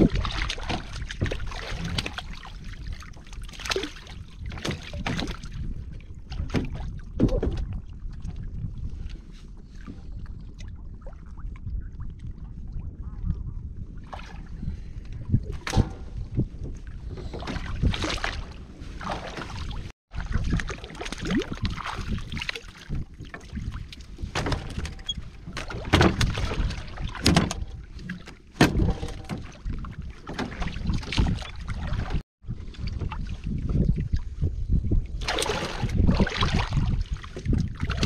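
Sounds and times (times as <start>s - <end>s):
water splashing around boat: 0.0s - 38.0s
wind rumbling on microphone: 0.0s - 38.0s.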